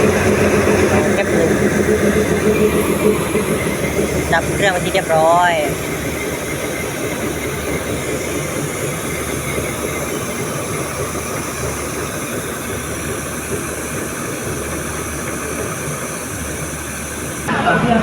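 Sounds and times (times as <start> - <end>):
railway equipment hum and hiss: 0.0 - 17.6.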